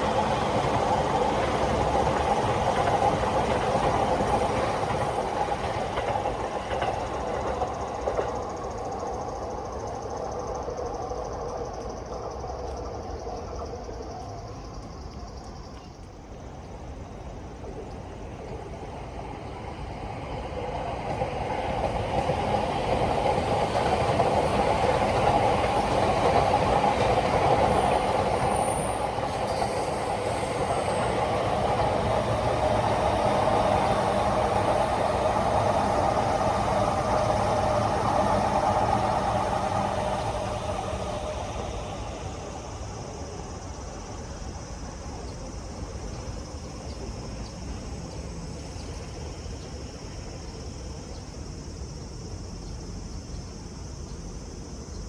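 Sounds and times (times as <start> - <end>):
train passing on tracks: 0.0 - 55.0.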